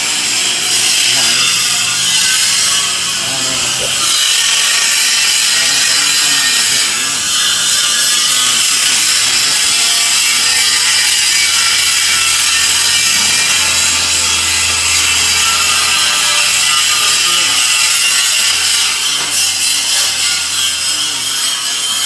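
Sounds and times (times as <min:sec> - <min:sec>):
stone-cutting machine grinding: 0:00.0 - 0:22.0.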